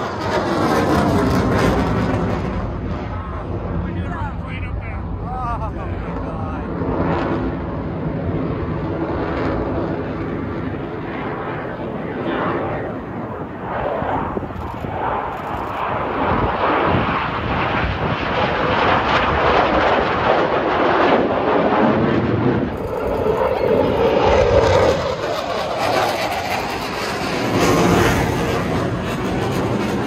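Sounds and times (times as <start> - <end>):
jets flying overhead: 0.0 - 30.0
single jet passing: 0.0 - 30.0.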